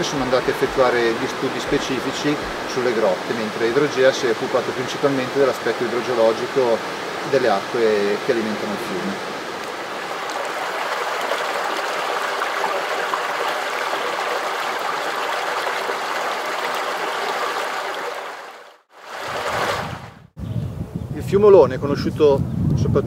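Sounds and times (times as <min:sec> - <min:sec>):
stream cascading over rocks: 0:00.0 - 0:20.0.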